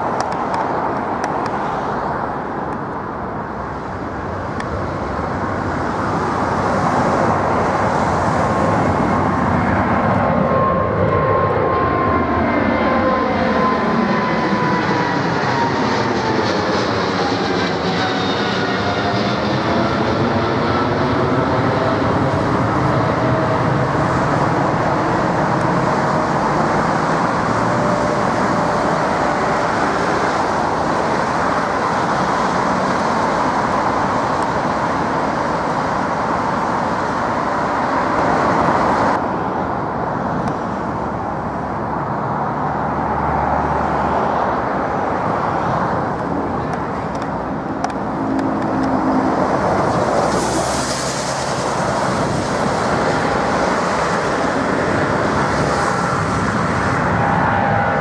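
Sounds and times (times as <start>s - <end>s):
jet airliner engine rumble: 0.0s - 58.0s
jet engine whine passing overhead: 0.0s - 58.0s.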